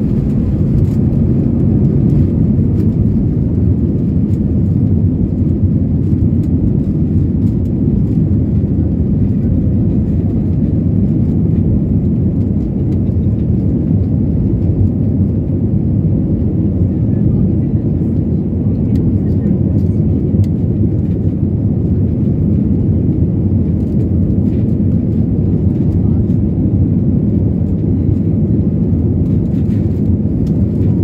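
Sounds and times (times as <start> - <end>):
jet engines low rumble in cabin: 0.0 - 31.0.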